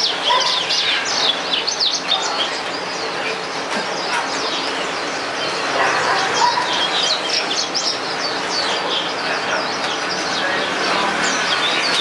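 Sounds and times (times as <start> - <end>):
canary singing chirps and trills: 0.0 - 12.0.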